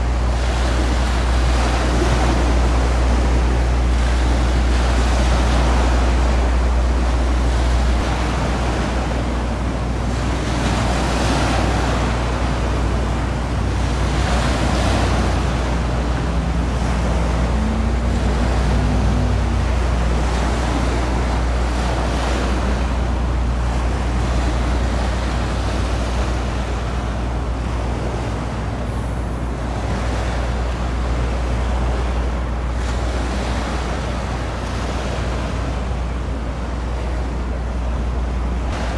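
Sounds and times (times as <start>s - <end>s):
rushing wind and water: 0.0s - 38.9s
ship diesel engine drone: 0.0s - 38.9s.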